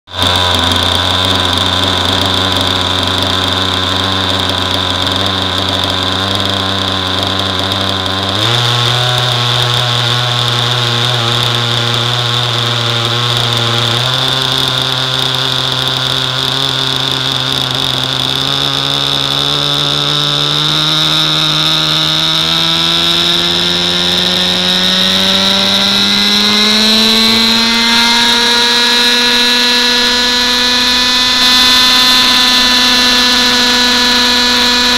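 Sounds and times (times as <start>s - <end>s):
model helicopter engine and rotor: 0.1s - 34.9s
steady high whine: 0.1s - 34.9s.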